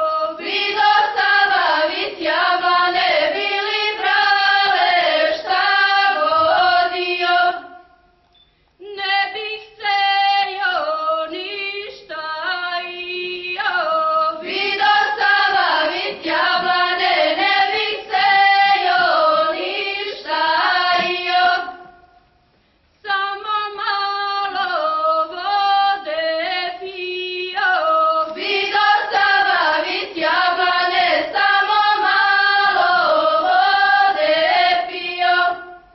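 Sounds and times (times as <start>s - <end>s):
women singing unaccompanied: 0.0s - 8.0s, 8.8s - 22.1s, 23.0s - 35.9s.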